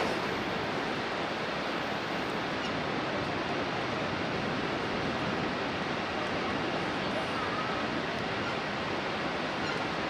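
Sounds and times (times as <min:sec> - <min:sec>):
whitewater river rushing: 0:00.0 - 0:10.0.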